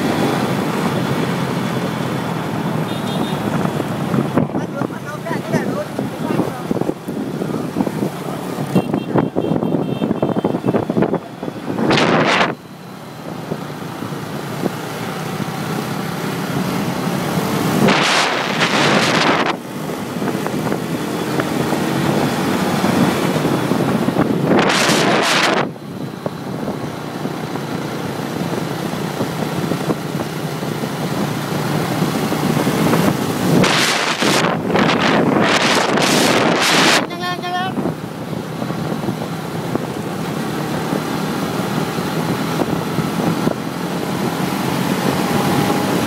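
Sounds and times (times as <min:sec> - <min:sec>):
motor scooter engine and tyres: 0:00.0 - 0:46.0
wind rushing over microphone: 0:03.4 - 0:46.0.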